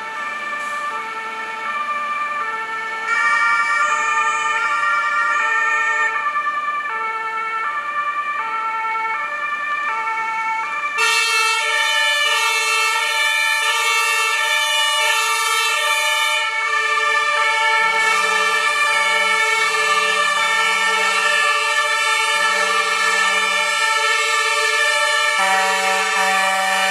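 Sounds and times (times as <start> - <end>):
louder brighter siren: 0.0 - 26.9
two-tone emergency sirens: 0.0 - 26.9.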